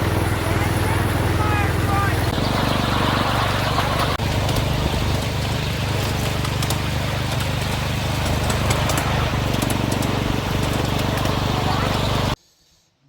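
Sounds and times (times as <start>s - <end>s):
miniature train rumbling on track: 0.0s - 12.4s.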